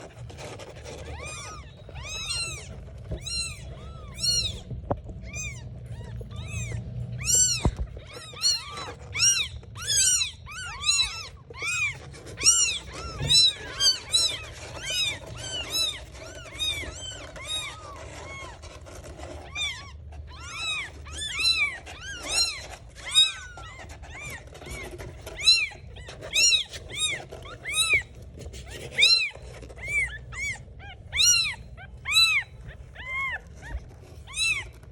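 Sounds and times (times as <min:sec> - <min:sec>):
kittens mewing: 0:00.0 - 0:34.9.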